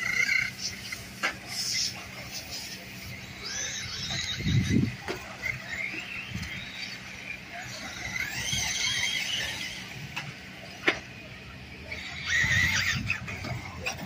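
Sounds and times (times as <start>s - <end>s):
rc car motor whining: 0.0s - 14.0s.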